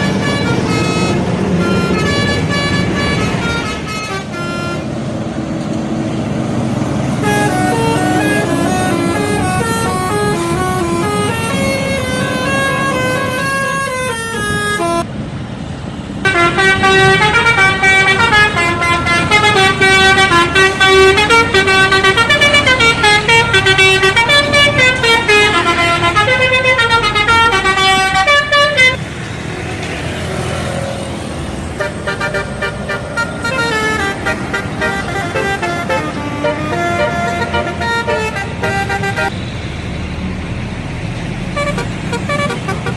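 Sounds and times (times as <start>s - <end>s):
bus horns playing a tune: 0.0s - 5.4s, 7.0s - 15.1s, 16.2s - 29.1s, 31.7s - 39.4s, 41.5s - 42.9s
road rumble: 0.0s - 42.9s.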